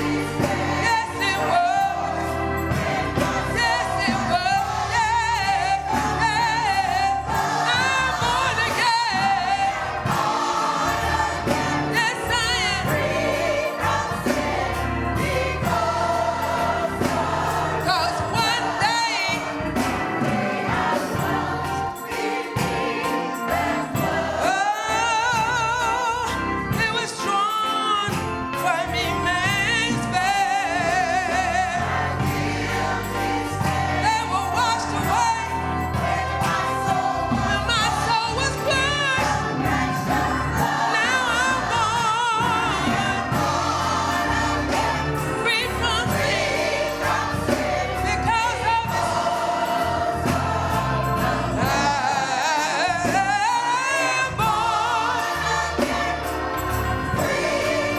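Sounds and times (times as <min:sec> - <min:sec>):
band accompaniment: 0:00.0 - 0:57.9
gospel choir singing: 0:00.0 - 0:57.9.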